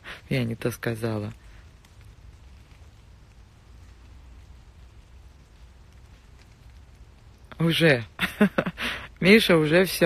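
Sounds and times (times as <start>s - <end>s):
light rain hissing: 0.0s - 10.0s
low rumble: 0.6s - 9.2s.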